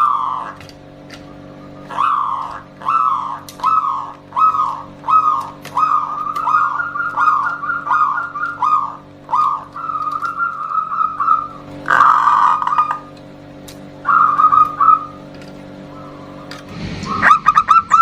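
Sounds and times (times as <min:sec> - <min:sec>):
dove cooing: 0:00.0 - 0:13.2, 0:14.0 - 0:18.0.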